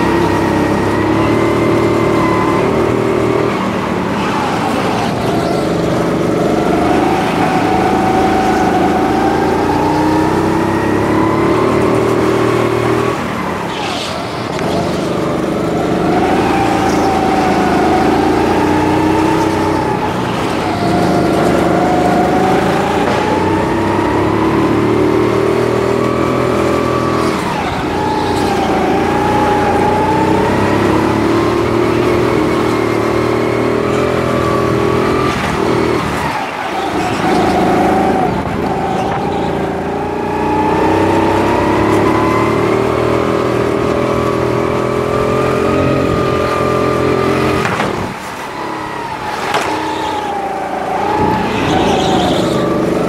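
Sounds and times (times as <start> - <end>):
go-kart motor running: 0.0 - 53.0.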